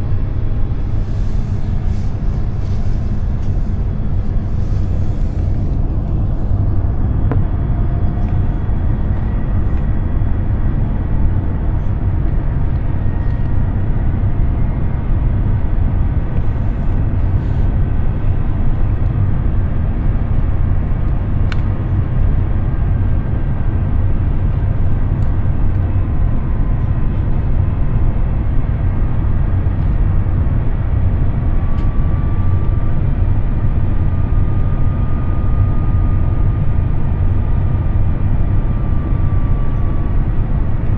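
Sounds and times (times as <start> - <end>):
airplane cabin rumble: 0.0 - 40.9
faint whine tones: 0.0 - 40.9.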